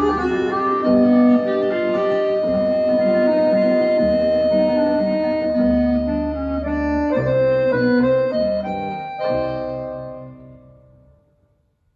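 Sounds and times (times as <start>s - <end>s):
organ-like held chords: 0.0s - 11.2s.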